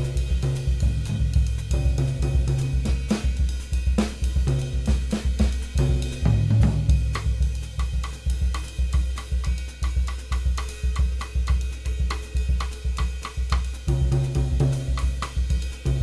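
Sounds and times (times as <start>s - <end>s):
drum kit playing samba groove: 0.0s - 16.0s.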